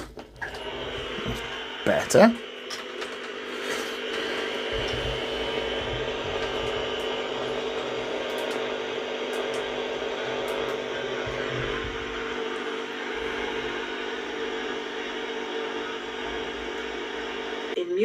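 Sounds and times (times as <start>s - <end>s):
radio broadcast through small speaker: 0.5s - 18.0s.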